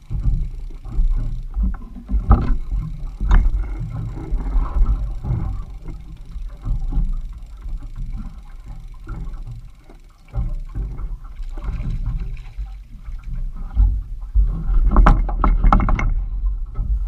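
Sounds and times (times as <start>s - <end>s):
low uneven rumble: 0.0s - 17.0s
waves slapping boat hull: 0.0s - 17.0s.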